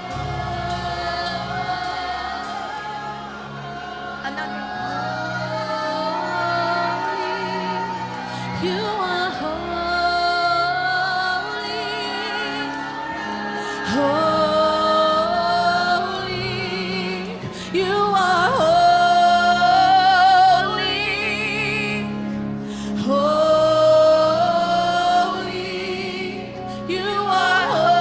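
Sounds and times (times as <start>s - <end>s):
woman singing with vibrato: 0.0s - 22.2s, 23.0s - 28.0s.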